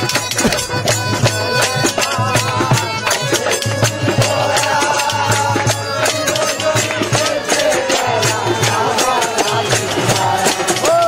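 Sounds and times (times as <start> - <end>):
long held melody line: 0.0 - 10.8
fast hand percussion: 0.0 - 11.0.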